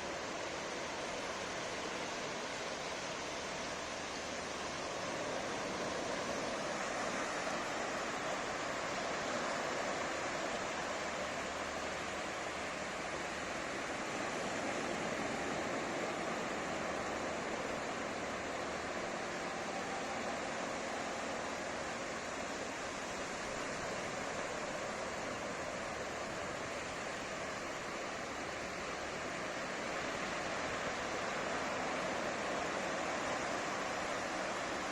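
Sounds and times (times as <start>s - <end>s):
ocean waves breaking on beach: 0.0s - 34.9s.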